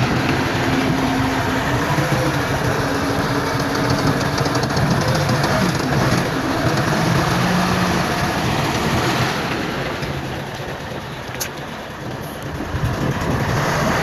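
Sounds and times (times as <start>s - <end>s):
heavy diesel machinery droning: 0.0s - 14.0s
rattling and clanking: 0.0s - 14.0s.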